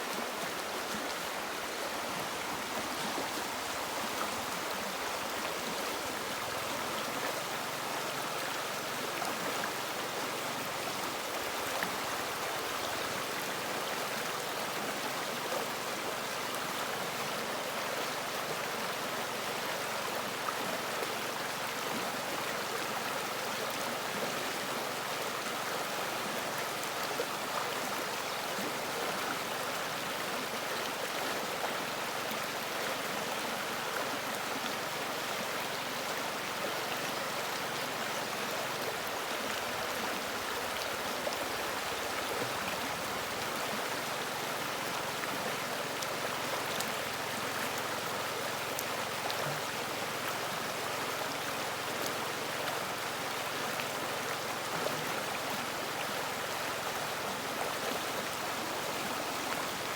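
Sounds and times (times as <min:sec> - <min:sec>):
river water rushing: 0:00.0 - 0:17.1, 0:25.1 - 0:59.9.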